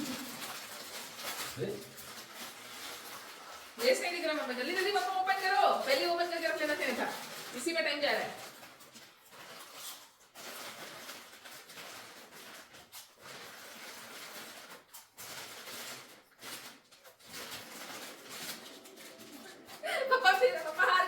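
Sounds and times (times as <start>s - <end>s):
chip packet crinkling: 0.0s - 21.0s
chips being crunched and chewed: 0.0s - 21.0s.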